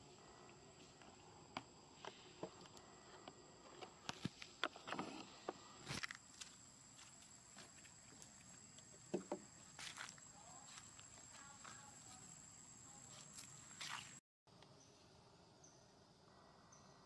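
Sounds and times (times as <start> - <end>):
high insect drone: 0.0 - 14.2.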